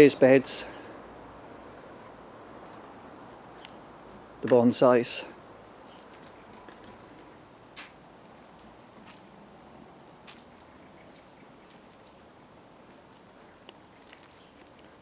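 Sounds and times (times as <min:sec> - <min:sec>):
faint outdoor background: 0:00.0 - 0:15.0
songbird calling: 0:01.6 - 0:07.3, 0:08.6 - 0:15.0.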